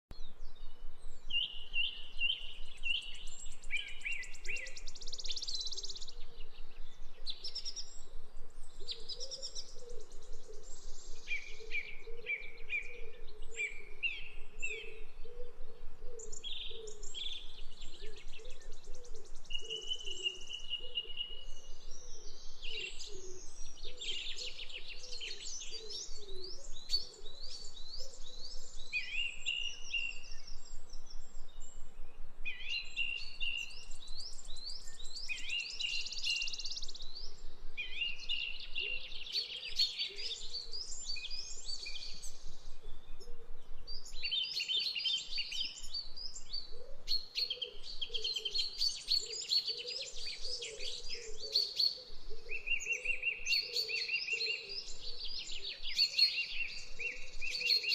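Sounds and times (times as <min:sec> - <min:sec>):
birds chirping and trilling: 0:00.1 - 0:57.9.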